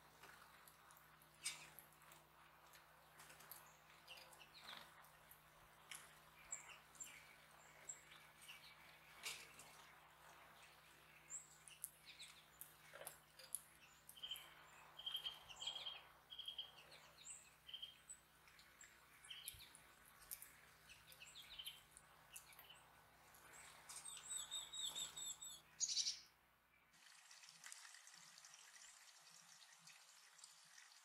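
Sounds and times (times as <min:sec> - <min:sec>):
small songbirds chirping: 0:00.0 - 0:26.9.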